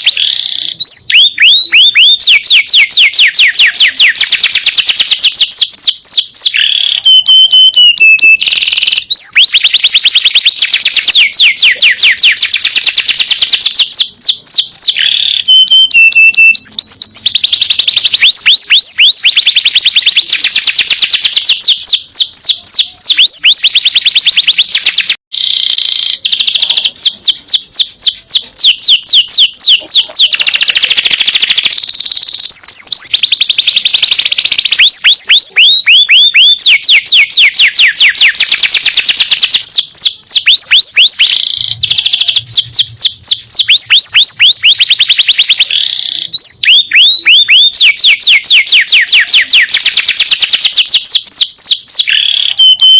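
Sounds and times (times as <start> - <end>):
canary singing in fast trills: 0.0 - 52.9.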